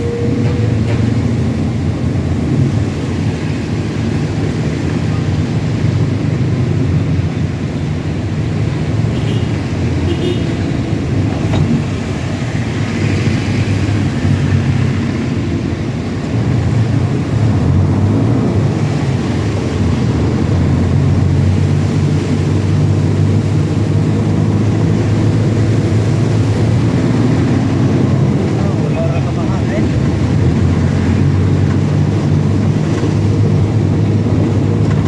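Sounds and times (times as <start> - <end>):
truck engine humming: 0.0 - 35.0.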